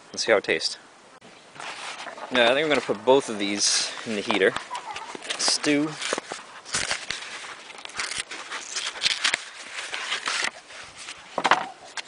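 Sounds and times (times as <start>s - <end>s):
packaging rustling and crinkling: 1.6s - 12.0s.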